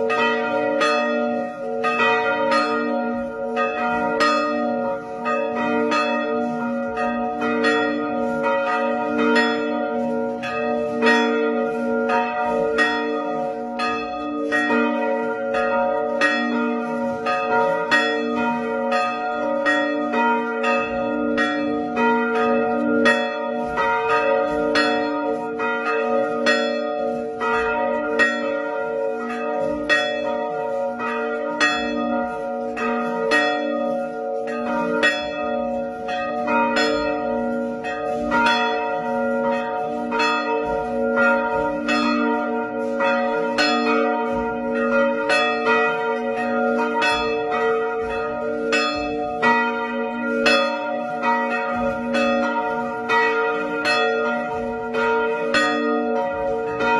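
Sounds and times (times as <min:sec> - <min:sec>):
church bells pealing: 0:00.0 - 0:56.9.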